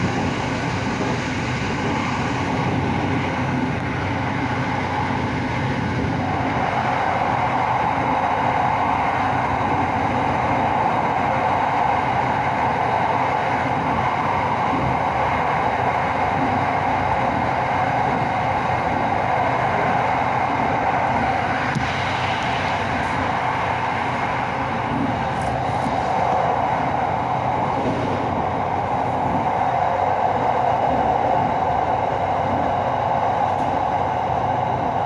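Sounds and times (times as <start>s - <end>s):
electric train running: 0.0s - 35.0s.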